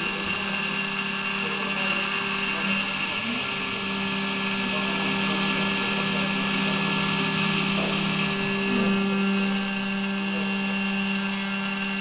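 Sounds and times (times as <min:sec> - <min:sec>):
milling machine spindle running: 0:00.0 - 0:12.0.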